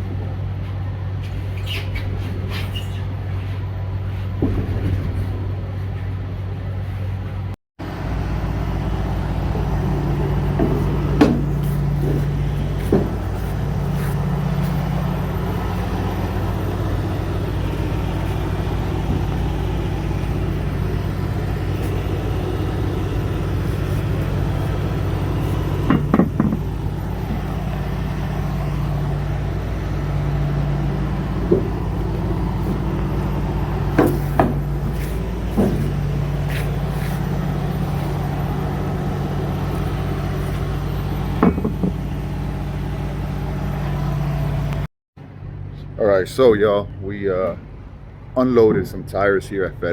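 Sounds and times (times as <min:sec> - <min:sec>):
diesel truck engine running: 0:00.0 - 0:49.9.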